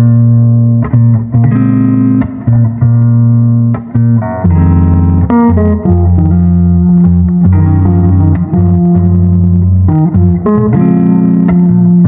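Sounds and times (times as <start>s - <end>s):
bass line: 0.0s - 12.0s
plucked guitar chords: 0.0s - 12.0s.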